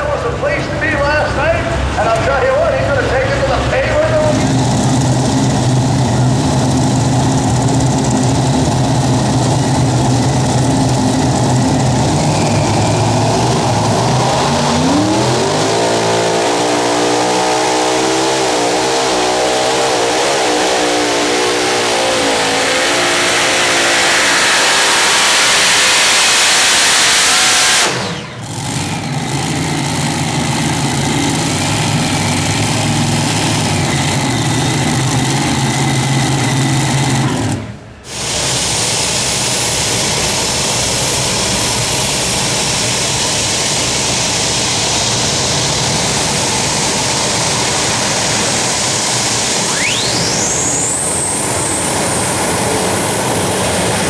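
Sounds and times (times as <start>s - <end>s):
pulling tractor engines revving: 0.0s - 54.0s.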